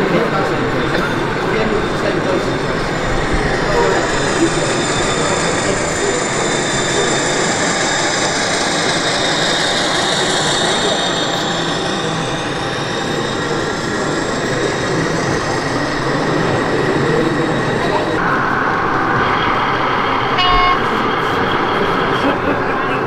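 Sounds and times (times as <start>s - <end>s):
crowd babble in a hall: 0.0s - 23.0s
model train high whine: 0.0s - 23.0s.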